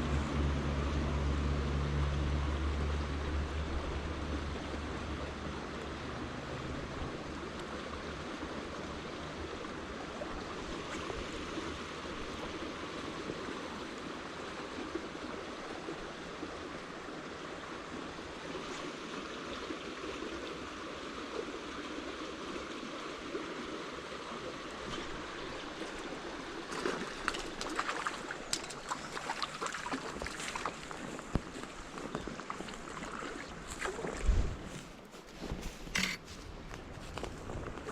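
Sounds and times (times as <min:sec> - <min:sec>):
shallow stream babbling: 0:00.0 - 0:36.6.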